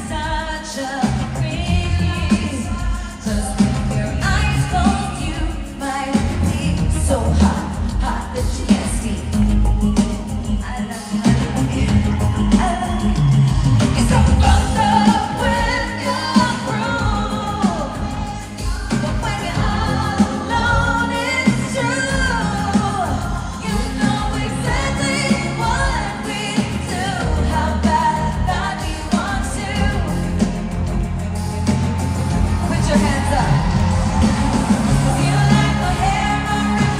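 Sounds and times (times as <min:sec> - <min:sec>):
woman singing: 0:00.0 - 0:30.8, 0:32.6 - 0:36.9
live rock band playing: 0:00.0 - 0:36.9.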